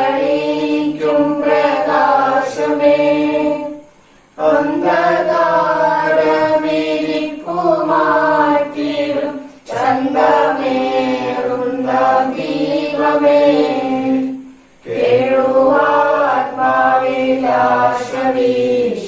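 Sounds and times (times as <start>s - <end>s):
person singing a slow hymn: 0.0s - 19.0s.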